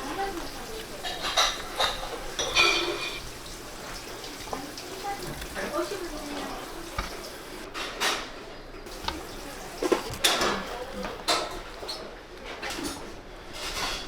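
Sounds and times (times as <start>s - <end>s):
pots and dishes clinking: 0.0s - 14.0s.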